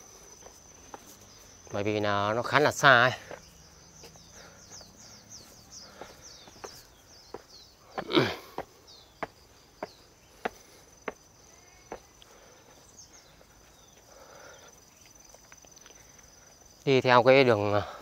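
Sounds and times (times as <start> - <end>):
bird chirps: 0.0 - 16.5
footsteps on stepped path: 0.0 - 16.7
high insect trill: 0.0 - 18.0.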